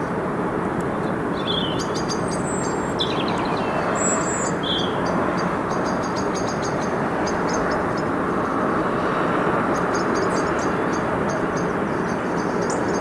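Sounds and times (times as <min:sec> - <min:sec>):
small birds chirping: 0:00.9 - 0:08.6, 0:09.7 - 0:13.0.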